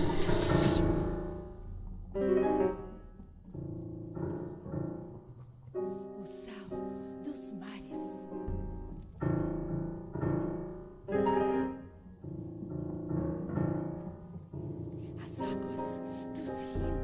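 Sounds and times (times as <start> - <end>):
grand piano chords: 0.0 - 17.0.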